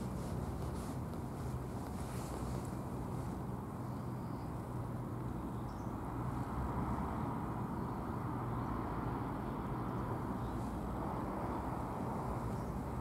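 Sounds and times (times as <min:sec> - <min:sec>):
low outdoor park rumble: 0:00.0 - 0:13.0.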